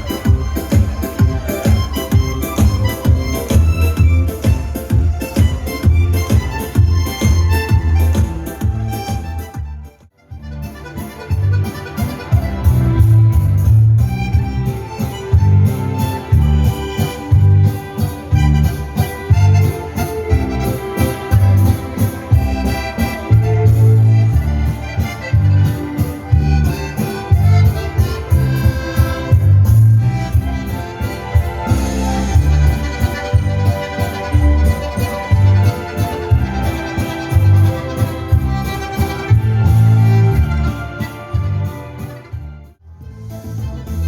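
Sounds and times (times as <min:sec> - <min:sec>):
accordion dance tune: 0:00.0 - 0:44.0
steady bass beat: 0:00.0 - 0:44.0.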